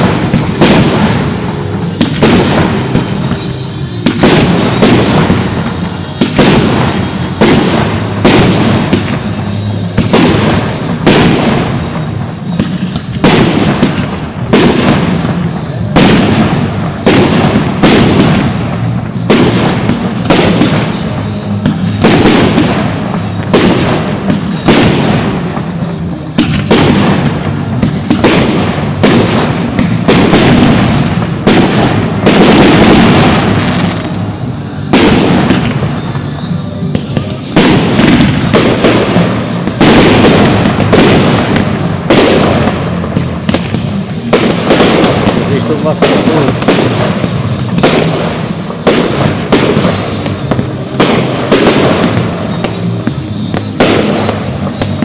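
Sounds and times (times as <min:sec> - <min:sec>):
firework crackle and rumble: 0:00.0 - 0:55.0
firework shells bursting: 0:00.0 - 0:55.0.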